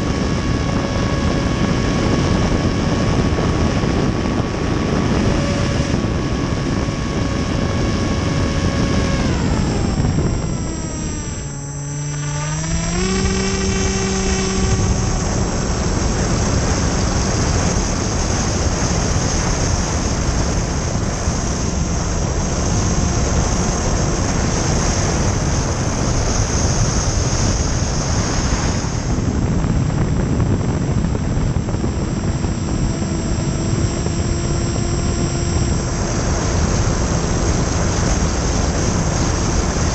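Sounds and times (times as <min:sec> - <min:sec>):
electric motor whine: 0:00.0 - 0:39.9
wind rush: 0:00.0 - 0:39.9.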